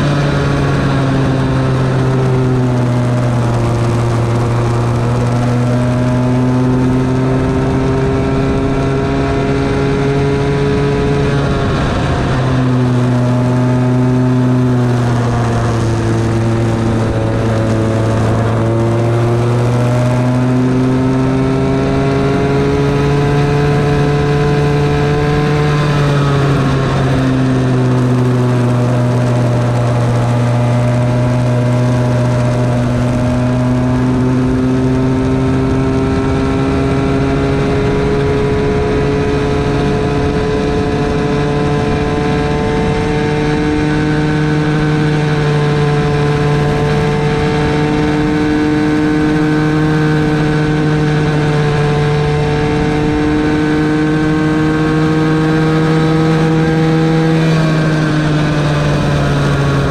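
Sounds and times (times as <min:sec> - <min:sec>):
go-kart engine running high: 0:00.0 - 0:59.9
wind and tyre noise: 0:00.0 - 0:59.9.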